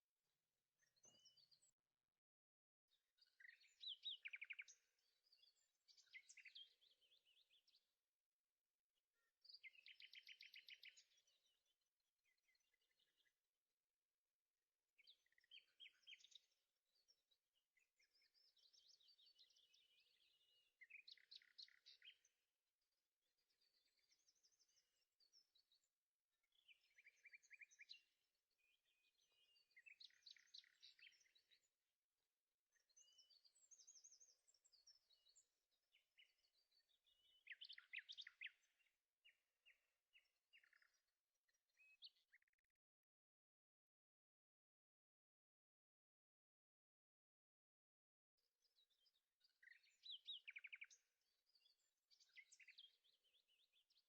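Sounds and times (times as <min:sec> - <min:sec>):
songbird chirps and trills: 0:00.0 - 0:42.8, 0:48.4 - 0:54.0.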